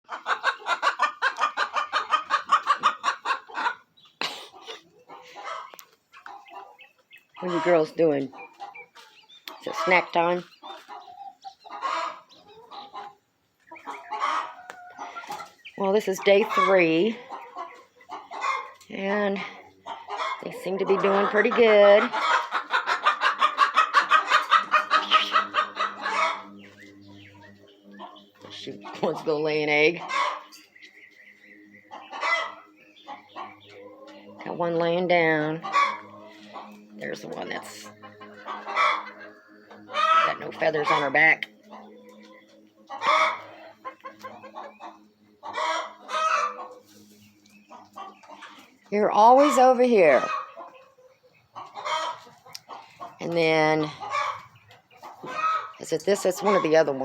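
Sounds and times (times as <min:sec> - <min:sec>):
hen clucking: 0:00.0 - 0:57.0.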